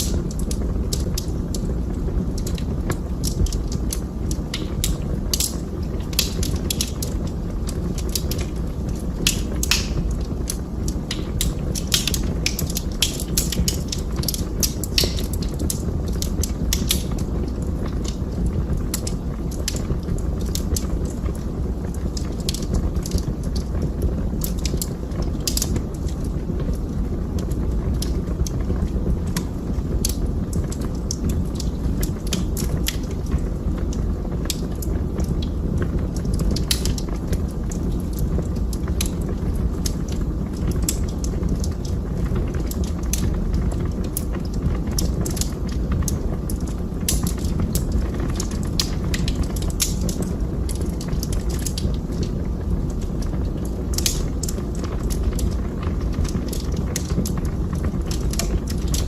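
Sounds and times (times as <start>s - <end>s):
fire crackling and popping: 0.0s - 59.0s
low rush of flames: 0.0s - 59.0s.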